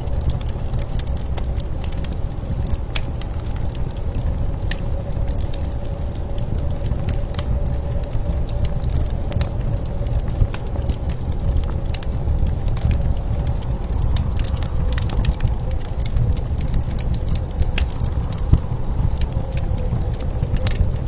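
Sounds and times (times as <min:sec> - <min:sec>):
blizzard wind rumbling: 0:00.0 - 0:21.0
wood fire crackling and popping: 0:00.0 - 0:21.0.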